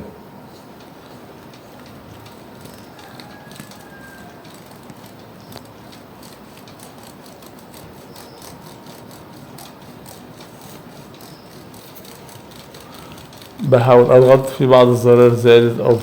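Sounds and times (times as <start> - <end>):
steady background hiss: 0.0 - 16.0
laptop keyboard keys clicking: 0.8 - 14.4.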